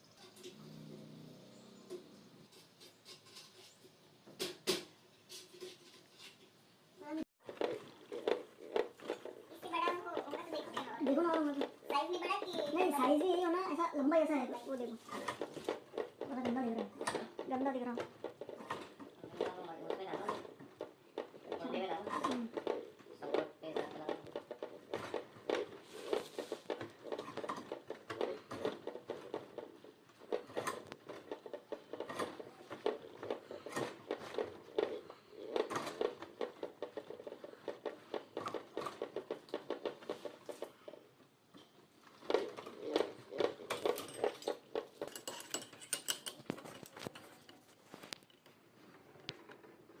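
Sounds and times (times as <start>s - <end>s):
hard objects clicking and clattering: 7.4s - 50.0s.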